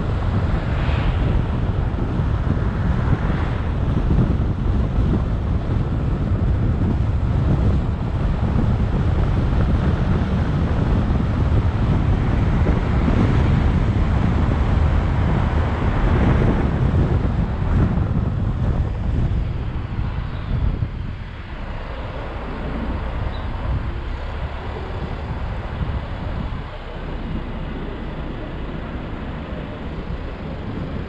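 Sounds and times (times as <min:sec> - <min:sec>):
car road and tyre noise: 0:00.0 - 0:31.0
wind buffeting microphone: 0:00.0 - 0:31.0.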